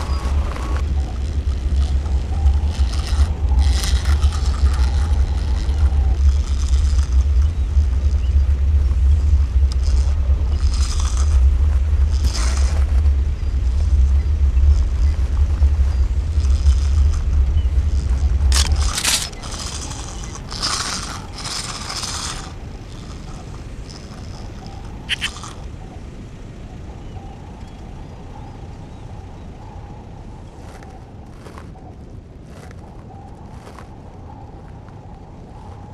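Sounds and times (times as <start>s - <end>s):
deep engine rumble: 0.0s - 35.9s.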